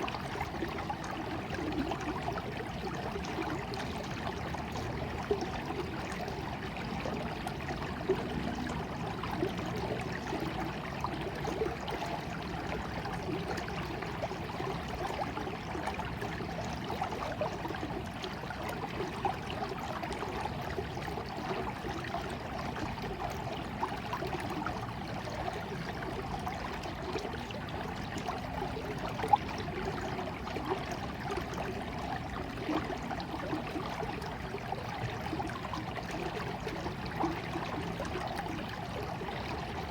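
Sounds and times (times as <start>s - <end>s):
water trickling in stream: 0.0s - 39.9s.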